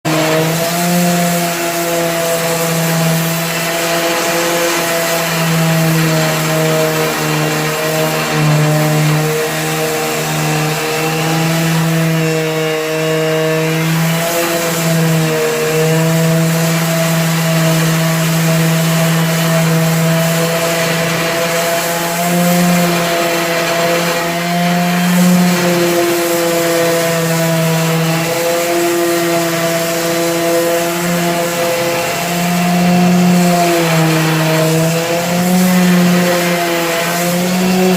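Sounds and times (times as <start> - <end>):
electric sander on wood: 0.0 - 37.9.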